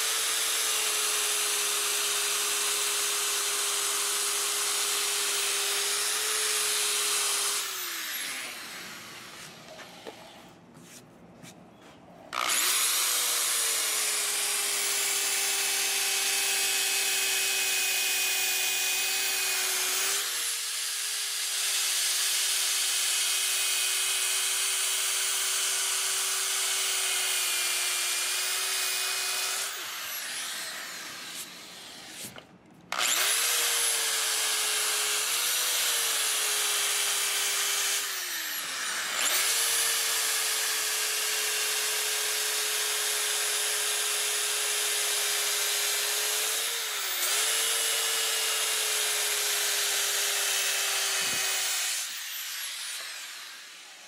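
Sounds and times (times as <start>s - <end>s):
power drill motor whining: 0.1s - 10.4s, 12.3s - 54.0s.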